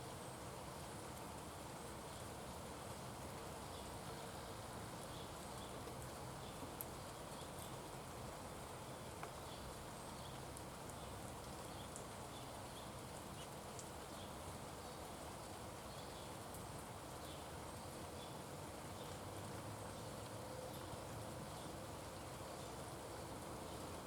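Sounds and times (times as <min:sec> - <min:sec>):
outdoor background hiss: 0:00.0 - 0:24.0
high faint ticks and chirps: 0:00.2 - 0:24.0.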